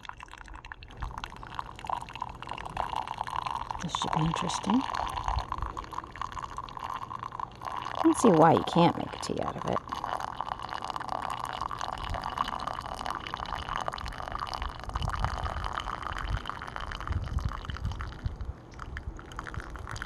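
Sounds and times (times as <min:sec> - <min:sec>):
water trickling and dripping: 0:00.0 - 0:20.0.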